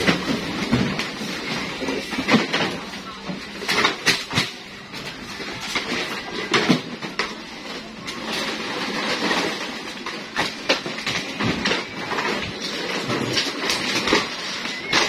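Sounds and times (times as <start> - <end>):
plastic crates clattering: 0.0 - 15.0.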